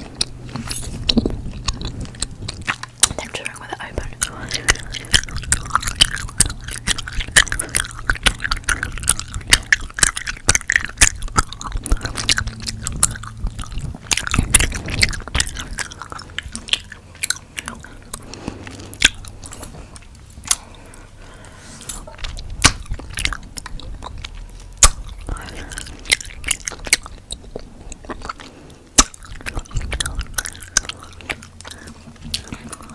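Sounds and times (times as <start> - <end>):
gum chewing clicks and smacks: 0.0 - 32.9.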